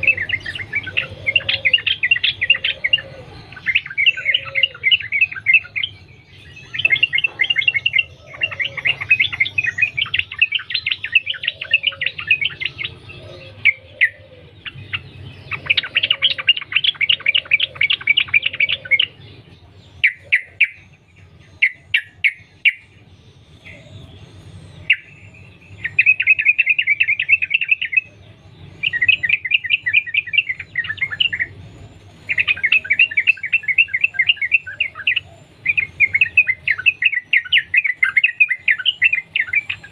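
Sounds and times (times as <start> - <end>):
bulbul singing rapid chattering: 0.0 - 39.9.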